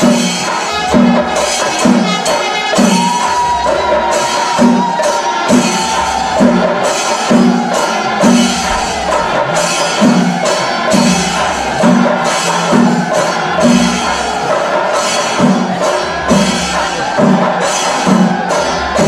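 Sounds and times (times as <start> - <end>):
drums beating a steady rhythm: 0.0 - 19.0.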